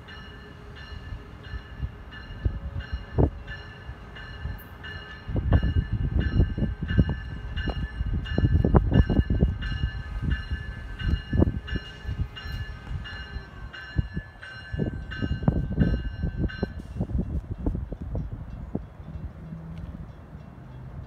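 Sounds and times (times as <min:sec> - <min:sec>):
passing train rumble and knocks: 0:00.0 - 0:21.0.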